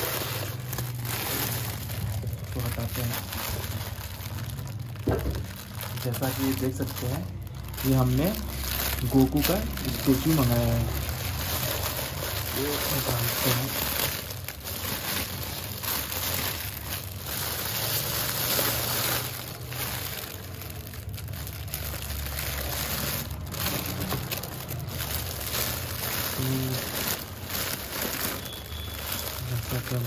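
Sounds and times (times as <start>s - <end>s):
plastic bags crinkling: 0.0s - 30.0s.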